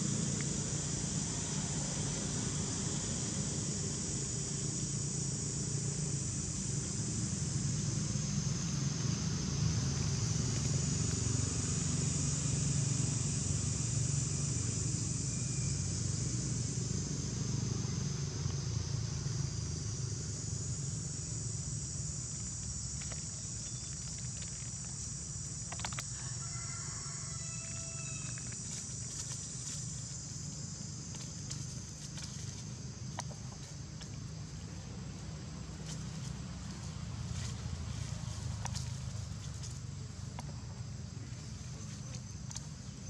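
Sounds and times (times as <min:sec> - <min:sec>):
low steady rumble: 0:00.0 - 0:26.4, 0:27.1 - 0:43.0
insect chorus drone: 0:00.0 - 0:43.0.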